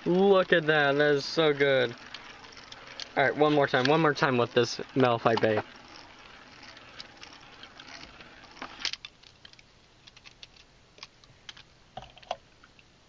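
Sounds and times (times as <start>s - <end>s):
spinning tops whirring: 0.0s - 10.6s
spinning tops clicking and knocking: 0.0s - 12.4s.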